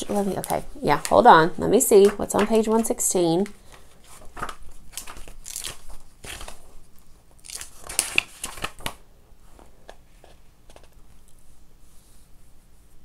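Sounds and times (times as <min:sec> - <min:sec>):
book pages turning: 0:00.0 - 0:11.3.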